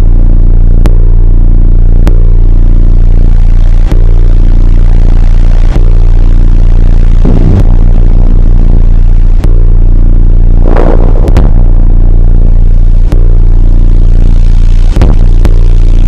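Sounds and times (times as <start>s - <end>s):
distorted low drone: 0.0s - 16.0s.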